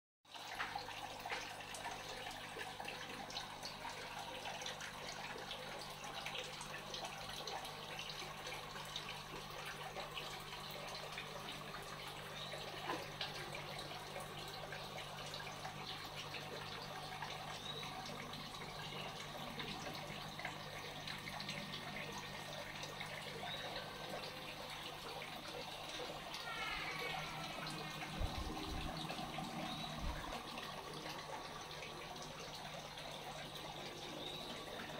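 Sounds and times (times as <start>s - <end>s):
water trickling into a tank: 0.2s - 34.9s.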